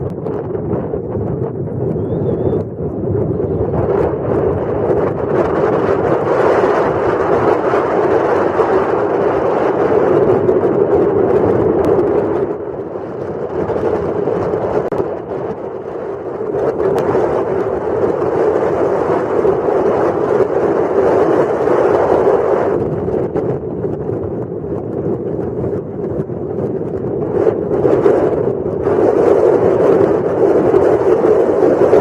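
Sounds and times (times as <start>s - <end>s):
powerboat engine drone: 0.0s - 32.0s.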